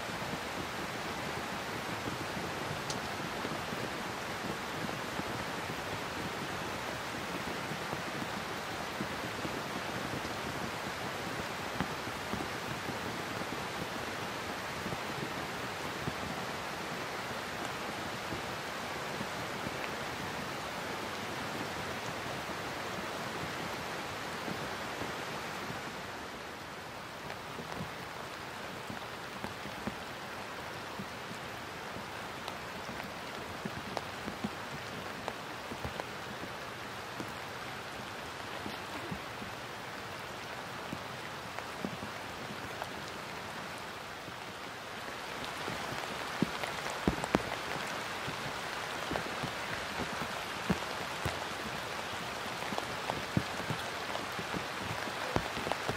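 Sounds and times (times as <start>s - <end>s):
rain falling on water and grass: 0.0s - 55.9s.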